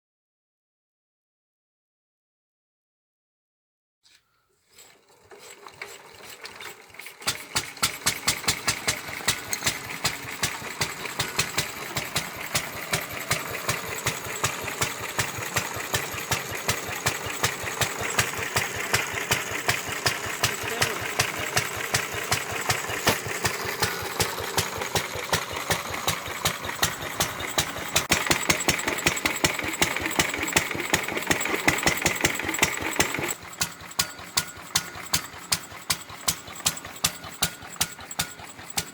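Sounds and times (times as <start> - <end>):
stationary engine running: 4.8 - 38.9.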